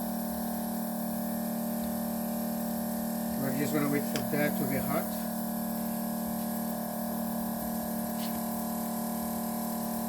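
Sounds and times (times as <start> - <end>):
machine hum: 1.2 - 10.0.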